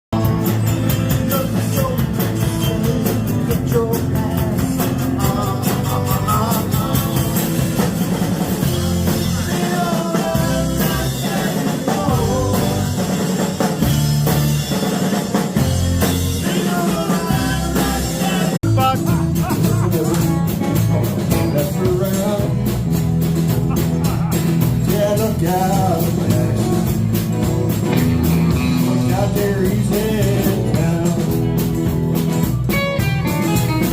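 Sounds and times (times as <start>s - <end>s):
rock band playing: 0.1s - 33.9s.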